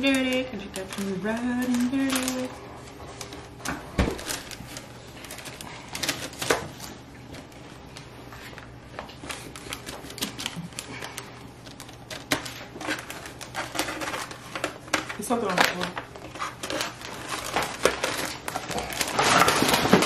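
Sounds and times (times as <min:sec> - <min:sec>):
foil pan and paper crinkling: 0:00.0 - 0:20.0.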